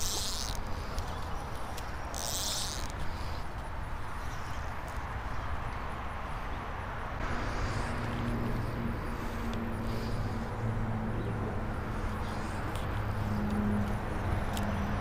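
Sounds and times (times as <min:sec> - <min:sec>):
outdoor noise: 0:00.0 - 0:15.0.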